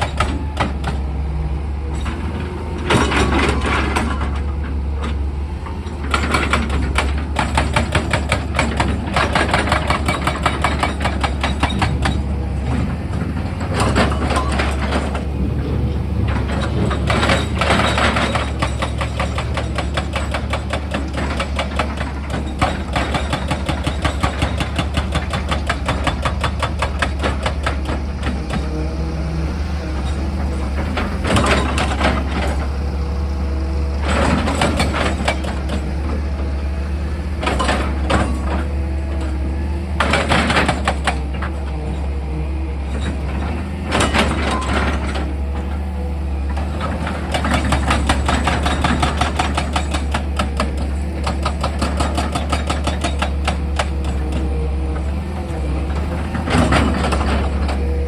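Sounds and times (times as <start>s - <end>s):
hydraulic rock drill hammering: 0.0s - 1.2s, 1.9s - 28.8s, 29.6s - 42.1s, 42.8s - 45.8s, 46.4s - 58.0s
diesel engine running: 0.0s - 58.0s.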